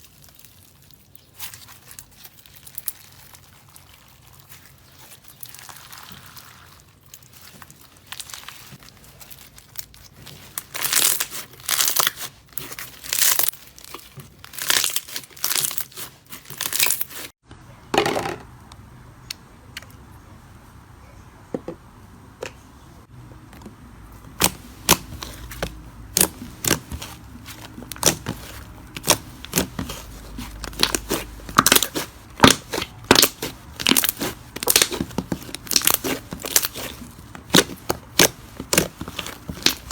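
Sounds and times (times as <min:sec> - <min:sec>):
slime crackling and popping: 0:00.0 - 0:17.3, 0:24.3 - 0:39.9.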